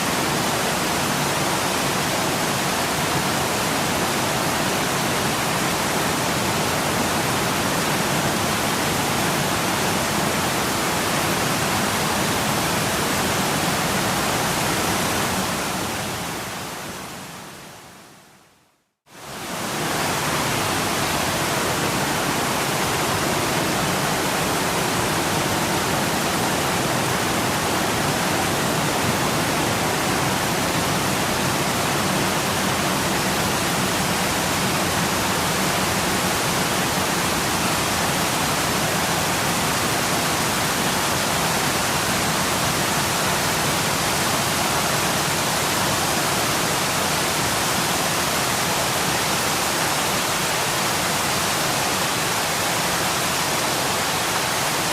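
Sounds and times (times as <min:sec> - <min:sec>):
waterfall rushing: 0:00.0 - 0:17.8, 0:19.1 - 0:54.9.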